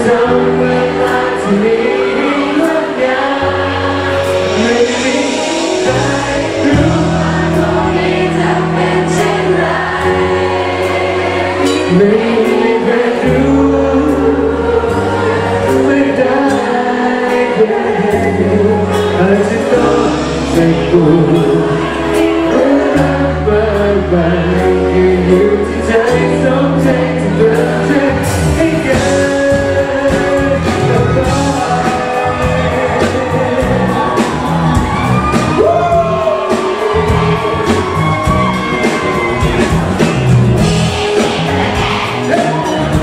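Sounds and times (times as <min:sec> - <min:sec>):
audience shouting and cheering: 0:00.0 - 0:43.0
live pop band with singing: 0:00.0 - 0:43.0.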